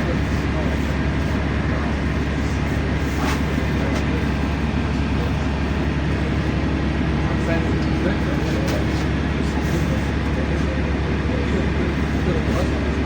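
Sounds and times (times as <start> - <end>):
bus diesel engine: 0.0 - 13.0
road rumble: 0.0 - 13.0.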